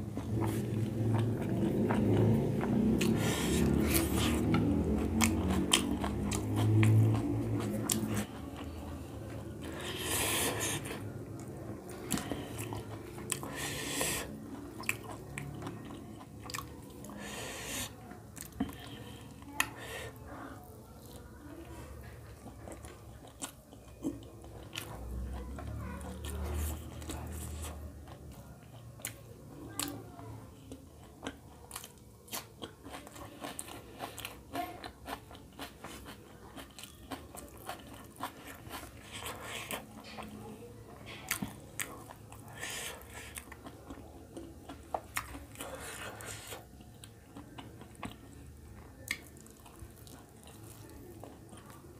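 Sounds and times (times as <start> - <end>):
chewing with wet mouth clicks: 0.0 - 19.8, 20.9 - 30.0, 30.6 - 51.9
low voiced hum: 0.0 - 51.9.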